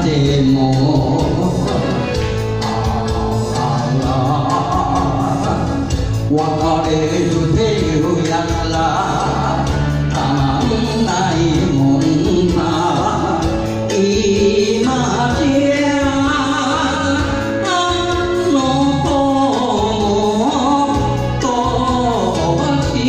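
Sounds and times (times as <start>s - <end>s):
backing music: 0.0s - 23.0s
man singing into a microphone: 0.0s - 23.0s.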